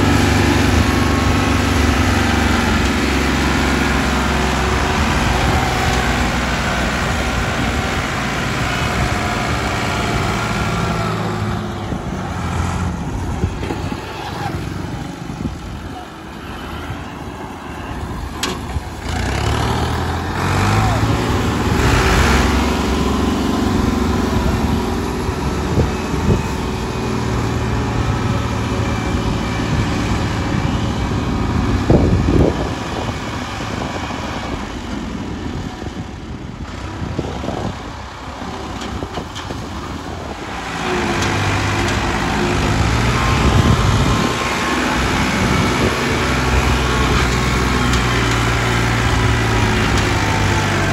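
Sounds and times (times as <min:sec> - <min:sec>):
tractor diesel engine under load: 0:00.0 - 0:50.9.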